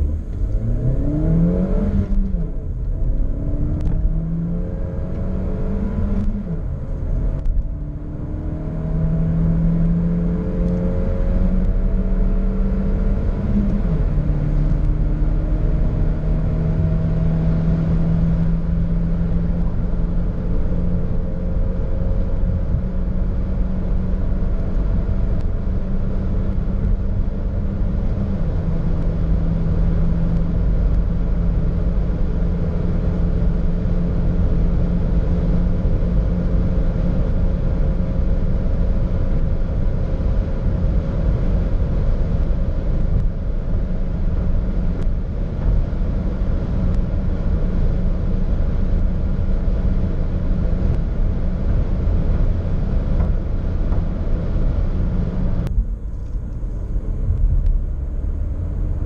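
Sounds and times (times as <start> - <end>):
car engine accelerating: 0.0 - 59.0
road and wind rumble: 0.0 - 59.0.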